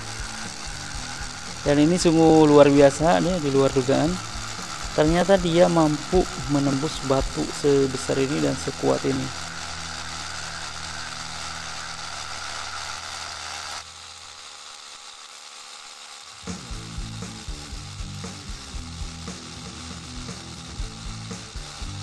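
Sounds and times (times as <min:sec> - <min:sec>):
rotary hammer drilling into stone: 0:00.0 - 0:22.0.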